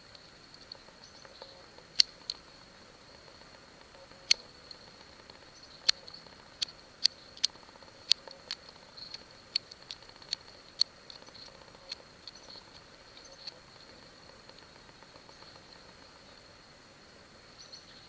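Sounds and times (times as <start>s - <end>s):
knife whittling wood clicks: 0.1s - 2.5s, 3.1s - 16.0s.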